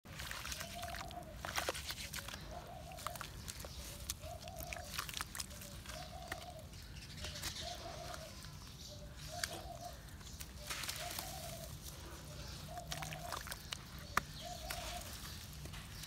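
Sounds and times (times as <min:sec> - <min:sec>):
wet squelching and splashing: 0:00.0 - 0:16.0
dove cooing: 0:00.6 - 0:01.5, 0:02.2 - 0:15.3.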